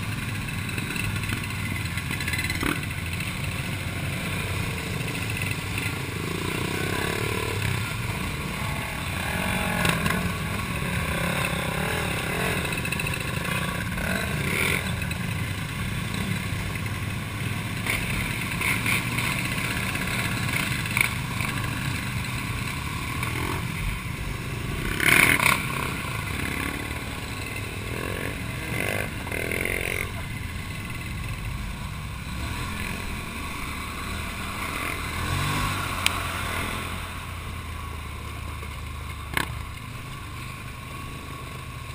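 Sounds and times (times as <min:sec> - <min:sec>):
tyre and rattling noise: 0:00.0 - 0:35.8
quad bike engine running: 0:00.0 - 0:41.9.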